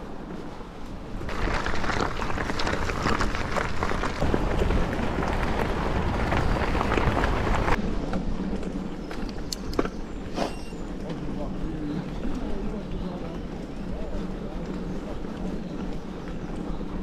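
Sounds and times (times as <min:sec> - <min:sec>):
bike tyre noise on rough ground: 0:00.0 - 0:17.0
bike clicks and rattles: 0:01.2 - 0:17.0.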